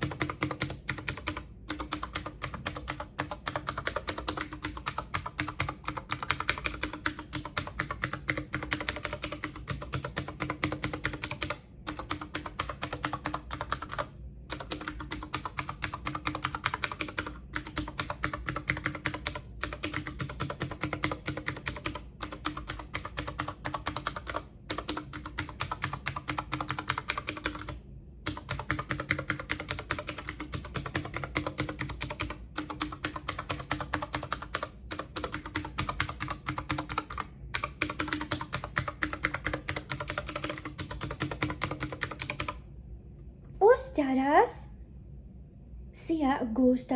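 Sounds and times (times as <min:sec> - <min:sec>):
fast typing on keyboard: 0:00.0 - 0:42.6.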